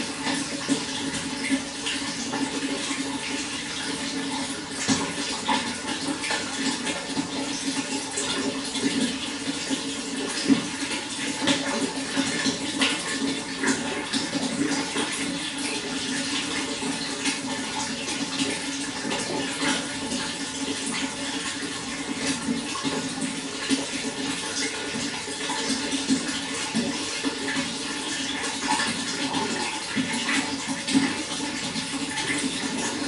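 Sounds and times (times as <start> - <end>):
running water flowing: 0.0 - 33.0
small splashes and drips: 0.0 - 33.0.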